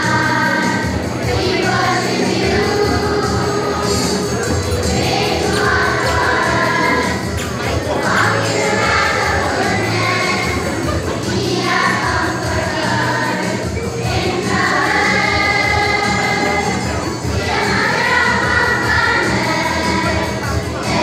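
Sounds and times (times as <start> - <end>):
choir singing long notes: 0.0 - 21.0.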